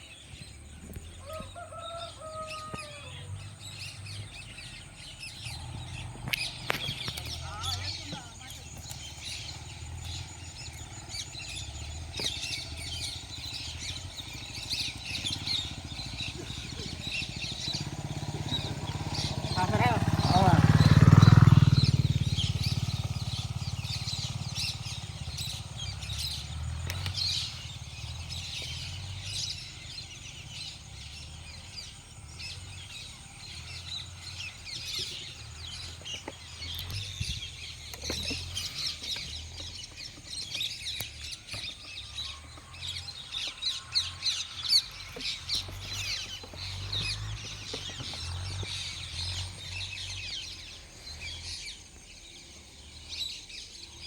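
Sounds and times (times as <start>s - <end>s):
low uneven rumble: 0.0s - 53.2s
small birds chirping: 0.0s - 54.0s.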